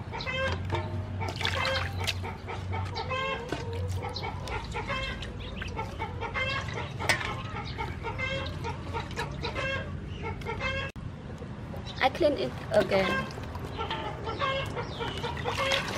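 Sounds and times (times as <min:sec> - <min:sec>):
chickens clucking: 0:00.0 - 0:11.9, 0:12.8 - 0:15.9.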